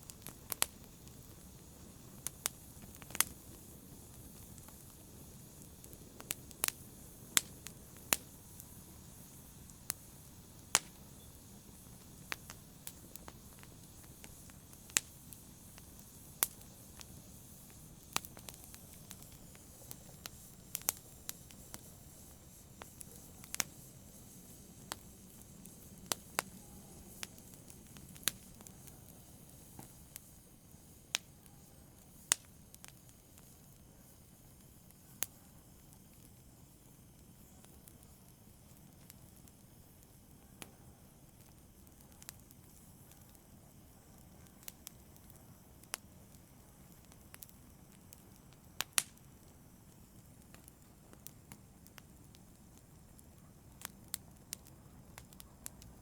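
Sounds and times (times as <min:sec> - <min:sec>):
low hiss: 0:00.0 - 0:56.0
wood fire crackling: 0:00.0 - 0:56.0.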